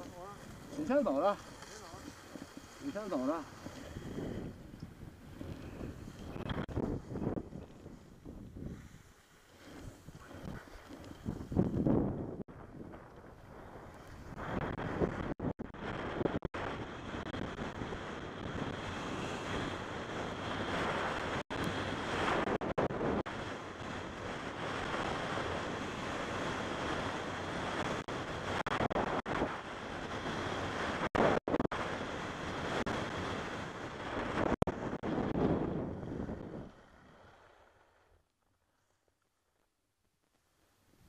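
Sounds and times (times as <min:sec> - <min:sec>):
skis sliding on snow: 0:00.0 - 0:12.2, 0:12.9 - 0:39.1
wind on microphone: 0:00.0 - 0:37.4.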